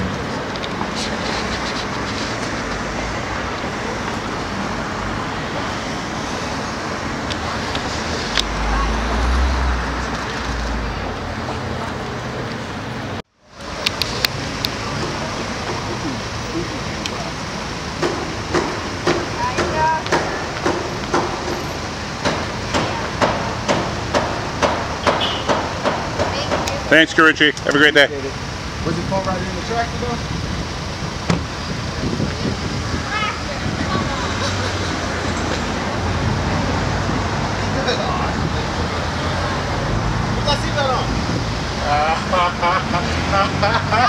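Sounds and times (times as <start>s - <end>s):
passing cars rushing: 0.0s - 44.0s
street traffic noise: 0.0s - 44.0s.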